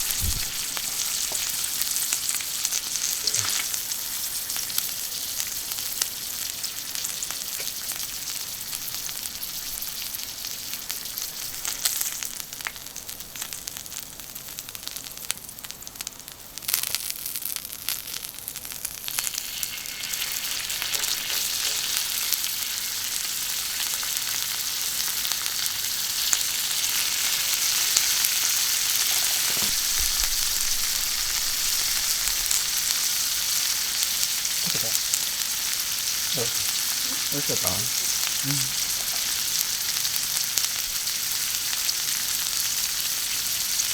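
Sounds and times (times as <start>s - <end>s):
food sizzling on a griddle: 0.0s - 43.9s.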